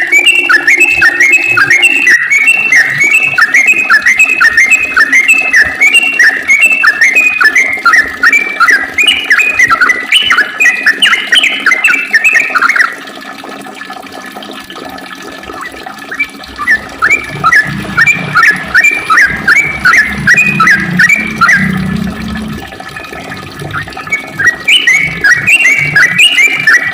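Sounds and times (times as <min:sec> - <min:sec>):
bird chattering song: 0:00.0 - 0:13.0, 0:15.6 - 0:22.1, 0:23.6 - 0:26.9.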